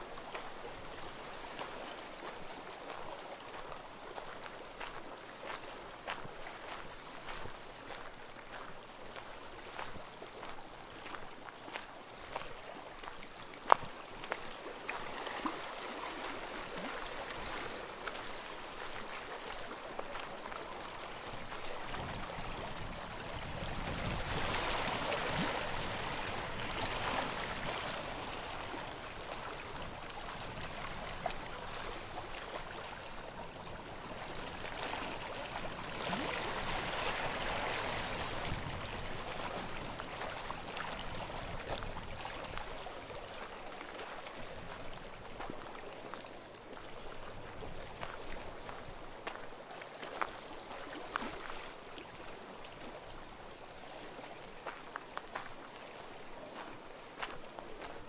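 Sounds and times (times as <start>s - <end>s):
small waves lapping: 0.0s - 58.0s.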